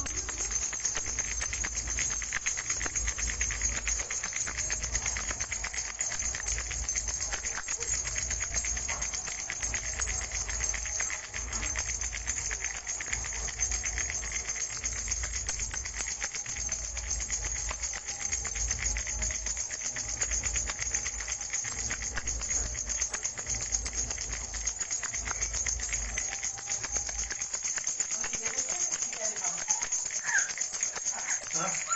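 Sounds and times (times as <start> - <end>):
baby rattle shaking: 0.0 - 31.9.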